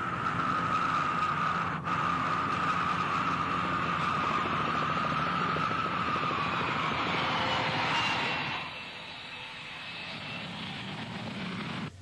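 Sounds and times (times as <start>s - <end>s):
jet engines whining and roaring: 0.0s - 12.0s.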